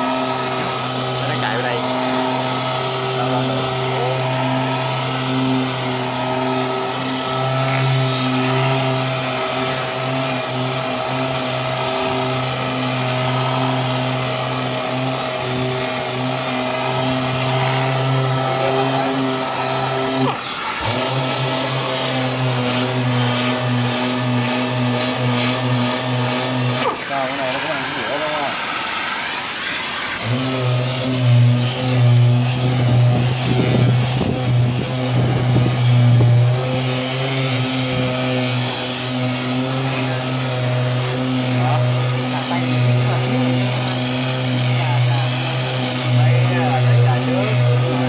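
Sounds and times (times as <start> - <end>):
power sander humming: 0.0 - 48.0
sanding hiss: 0.0 - 48.0.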